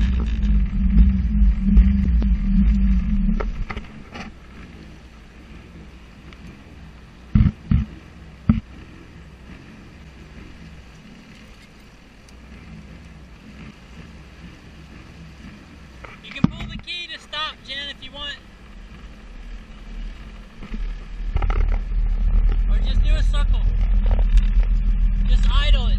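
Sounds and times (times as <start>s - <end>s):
jet ski engine idling: 0.0s - 25.9s.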